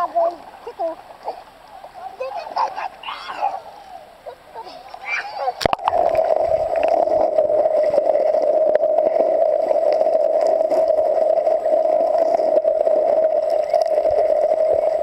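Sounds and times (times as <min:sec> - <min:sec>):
muffled underwater rush: 0:00.0 - 0:15.0.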